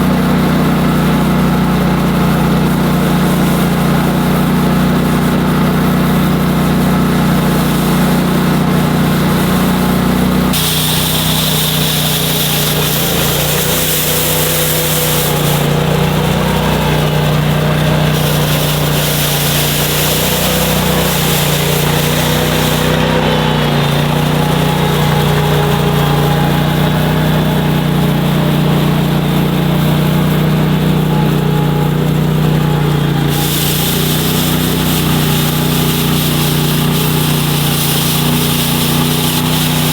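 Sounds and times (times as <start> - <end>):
engine running: 0.0 - 39.9
rotary broom sweeping snow: 0.5 - 39.9.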